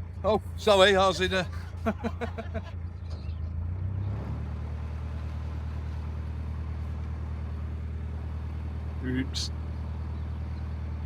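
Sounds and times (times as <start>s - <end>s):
boat engine humming: 0.0s - 4.0s, 4.6s - 11.0s.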